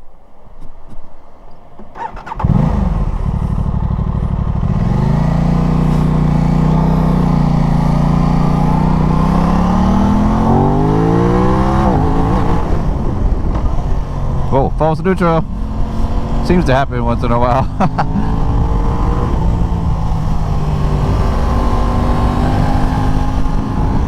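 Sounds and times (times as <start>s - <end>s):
motorcycle engine accelerating: 1.8s - 24.0s.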